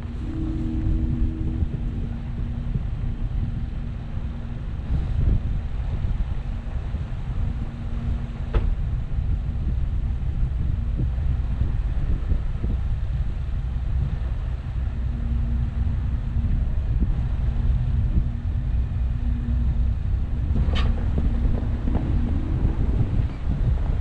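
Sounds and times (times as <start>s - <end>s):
steady hum: 0.0s - 24.0s
wind buffeting microphone: 0.0s - 24.0s.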